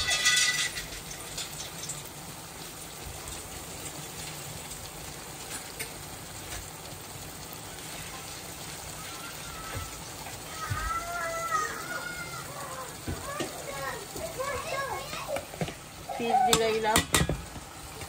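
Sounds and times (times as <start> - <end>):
curry simmering in a pot: 0.0 - 18.0.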